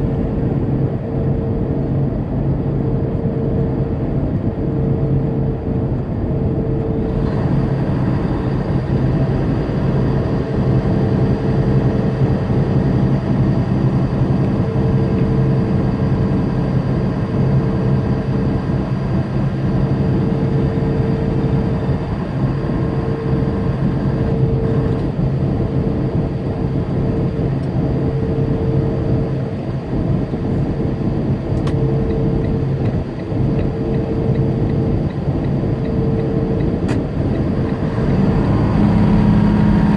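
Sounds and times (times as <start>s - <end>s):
truck engine and tyre drone: 0.0s - 39.9s.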